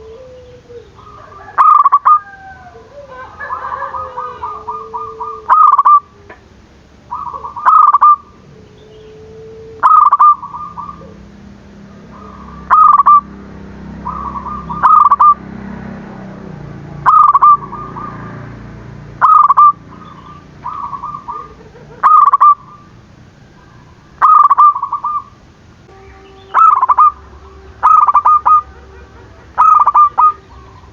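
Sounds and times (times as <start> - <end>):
dove cooing: 0.0 - 16.2, 16.9 - 30.9.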